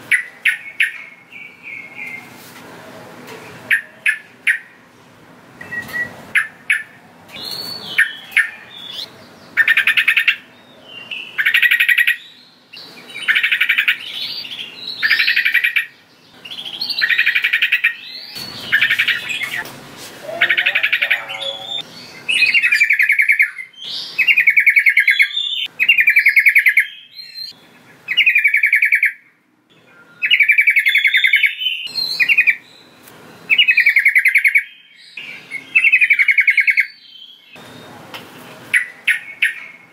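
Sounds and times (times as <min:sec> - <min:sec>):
bird chattering song: 0:00.0 - 0:02.4, 0:03.7 - 0:04.8, 0:05.6 - 0:19.6, 0:20.2 - 0:38.0, 0:38.7 - 0:39.9.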